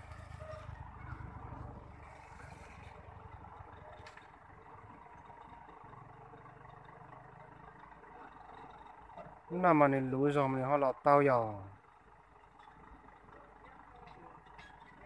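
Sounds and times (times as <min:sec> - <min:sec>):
distant truck diesel engine: 0:00.0 - 0:15.0.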